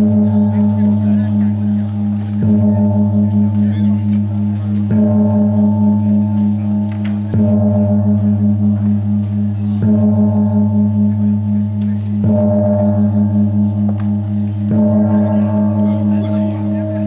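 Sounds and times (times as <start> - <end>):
large gong ringing: 0.0 - 17.0.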